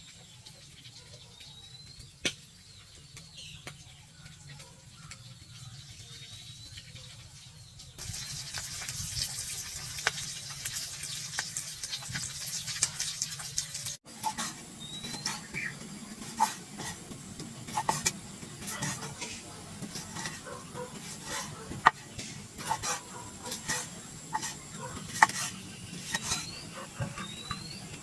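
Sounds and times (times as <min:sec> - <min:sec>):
utensils and cookware clinking: 0:04.3 - 0:28.0.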